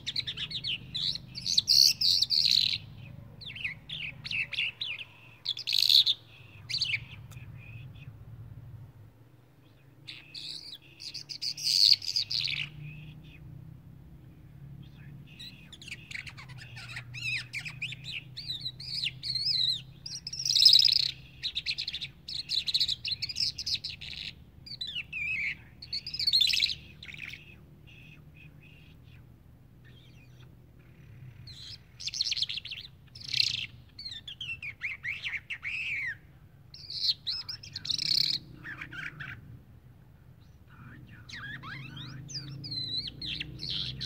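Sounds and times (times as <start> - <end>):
songbird chirping and warbling: 0.0 - 44.0.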